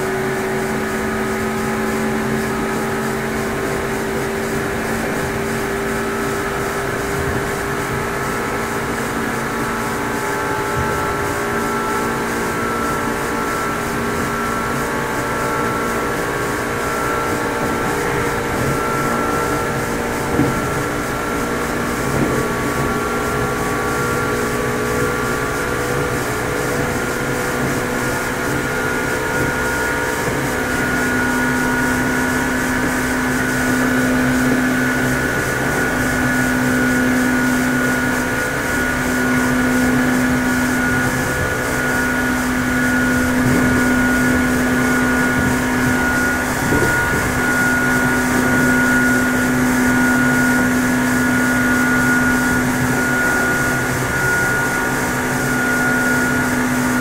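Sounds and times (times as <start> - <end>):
electric train motor hum: 0.0 - 57.0.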